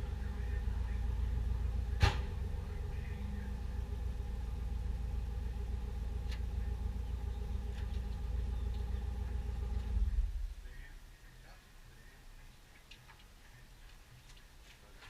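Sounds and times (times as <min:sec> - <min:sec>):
truck engine idling: 0:00.0 - 0:14.2.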